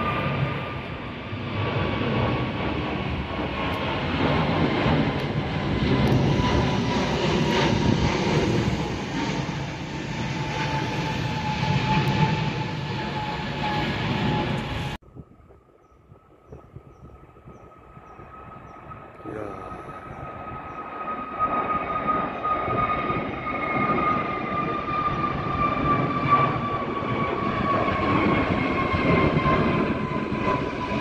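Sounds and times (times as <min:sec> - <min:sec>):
jet airliner passing overhead: 0:00.0 - 0:31.0.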